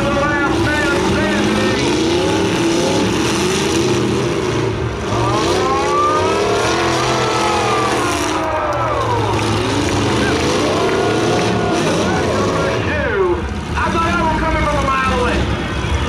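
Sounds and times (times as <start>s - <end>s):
engine revving: 0.0s - 15.5s
car engines running loud: 0.0s - 16.0s.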